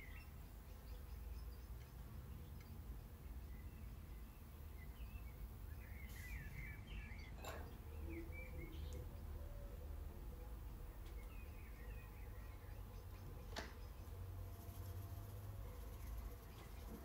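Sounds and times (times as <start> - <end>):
faint bird chirps: 0.0 - 17.0
steady low hum: 0.0 - 17.0.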